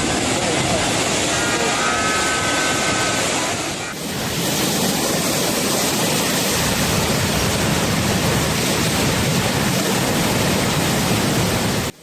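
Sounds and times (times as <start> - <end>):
strong storm wind roaring: 0.0 - 12.0.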